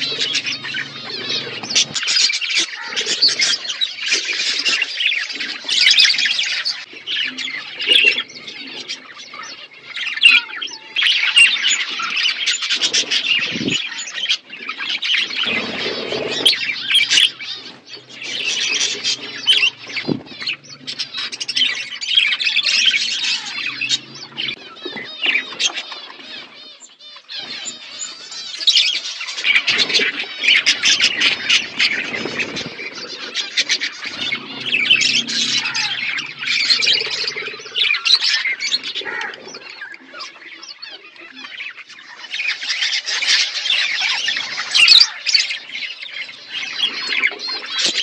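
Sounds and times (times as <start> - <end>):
budgerigars chattering: 0.0 - 48.0.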